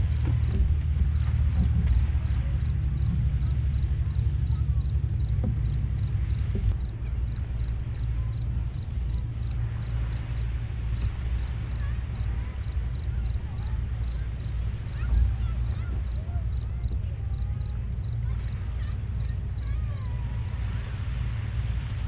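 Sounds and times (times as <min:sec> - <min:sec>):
distant ocean surf: 0:00.0 - 0:22.0
insect chirping: 0:00.0 - 0:22.0.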